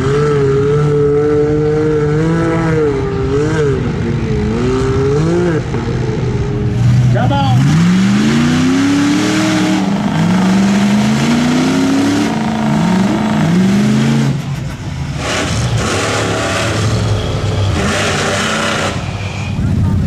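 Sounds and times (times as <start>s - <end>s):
truck engine in mud: 0.0s - 20.0s
truck engine revving: 0.0s - 20.0s.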